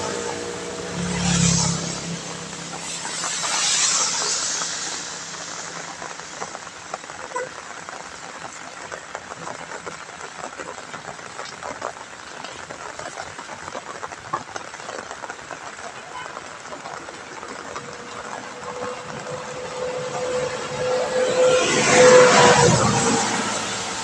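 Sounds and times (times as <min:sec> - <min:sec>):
rain on wet road: 0:00.0 - 0:24.0
tyres hissing on wet asphalt: 0:00.0 - 0:24.0.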